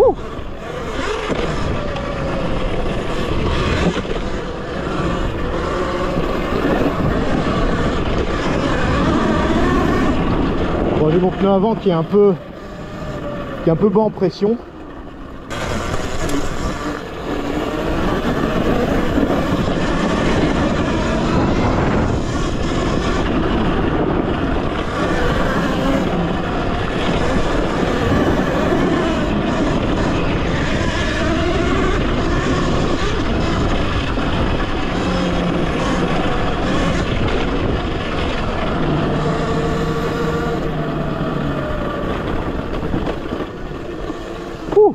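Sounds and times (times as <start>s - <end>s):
dirt bike riding noise: 0.0s - 44.9s
electric motor whine: 0.0s - 44.9s.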